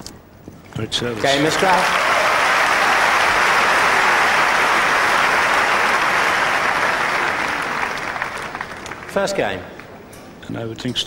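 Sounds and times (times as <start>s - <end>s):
crowd applauding: 1.0s - 9.9s.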